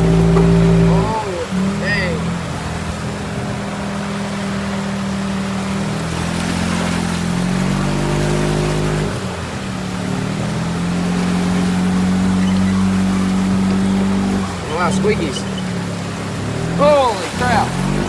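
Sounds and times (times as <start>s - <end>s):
golf cart engine running hard: 0.0s - 18.0s
water washing: 0.0s - 18.0s.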